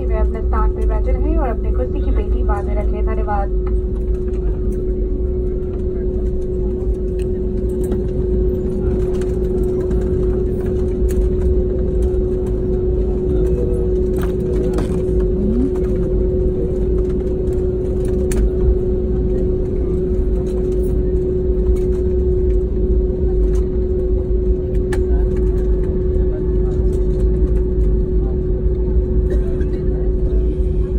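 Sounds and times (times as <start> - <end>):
airliner cabin rumble: 0.0 - 30.9
constant hum: 0.0 - 30.9.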